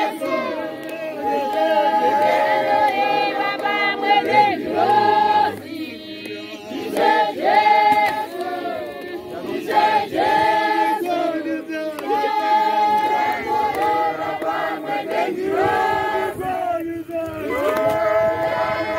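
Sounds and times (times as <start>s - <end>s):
congregation singing a hymn: 0.0s - 18.9s.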